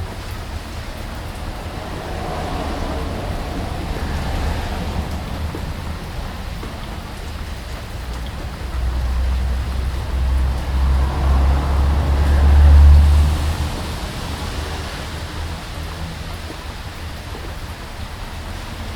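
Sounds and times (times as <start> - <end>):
thunder rumble: 0.0 - 17.8
steady rain: 0.0 - 18.9.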